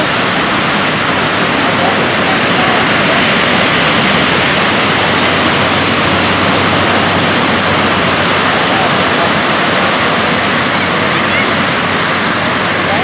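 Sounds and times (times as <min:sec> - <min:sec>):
heavy ocean surf breaking: 0:00.0 - 0:13.0.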